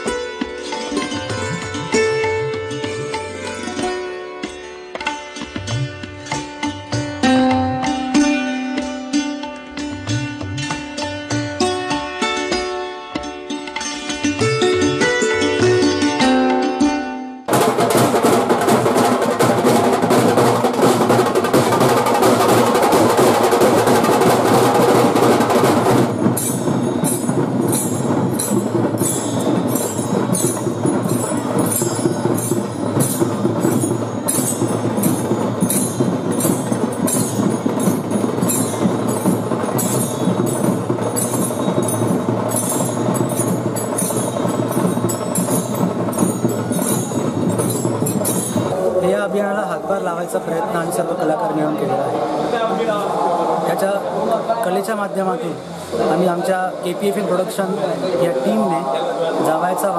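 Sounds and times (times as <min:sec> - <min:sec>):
dhol drums drumming: 0:00.0 - 0:59.9.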